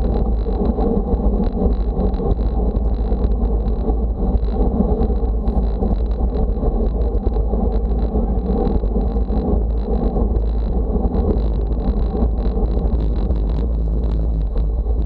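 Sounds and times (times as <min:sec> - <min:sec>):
bike road noise: 0:00.0 - 0:15.0
thin steady whine: 0:00.0 - 0:15.0
wind rushing over microphone: 0:00.0 - 0:15.0.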